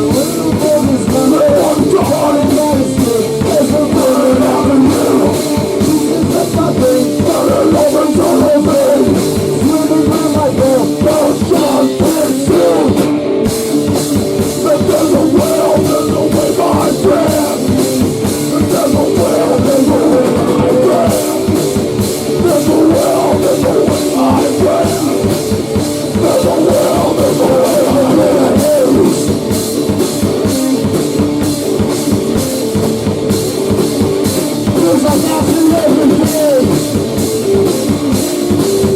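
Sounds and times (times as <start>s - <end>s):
drum kit beat: 0.0s - 38.9s
guitar: 0.0s - 38.9s
rock band playing grunge music: 0.0s - 38.9s.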